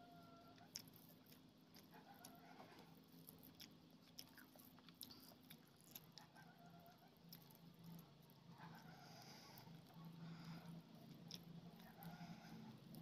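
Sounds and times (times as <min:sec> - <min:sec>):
chewing: 0:00.6 - 0:13.0.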